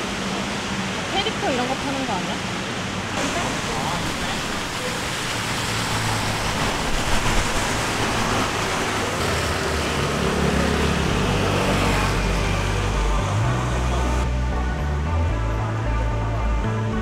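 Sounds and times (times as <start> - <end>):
cars passing on wet road: 0.0 - 14.4.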